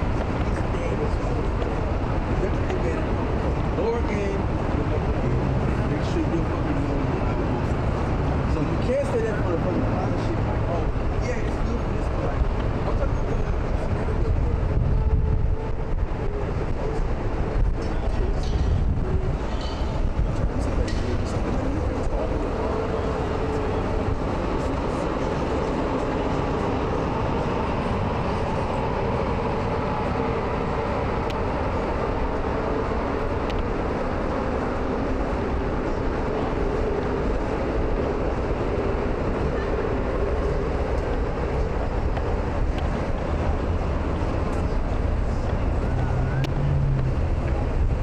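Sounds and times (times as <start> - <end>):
traffic rumble: 0.0 - 48.0.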